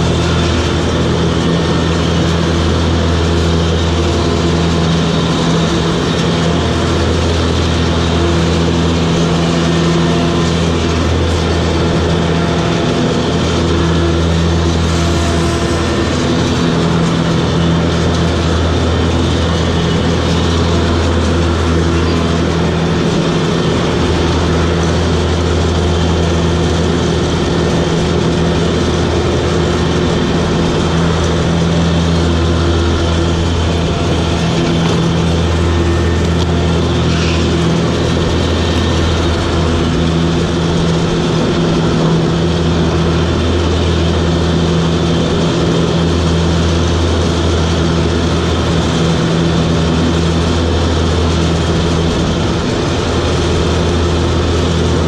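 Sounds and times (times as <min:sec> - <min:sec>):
broad whirring noise: 0:00.0 - 0:55.0
mower diesel engine running: 0:00.0 - 0:55.0.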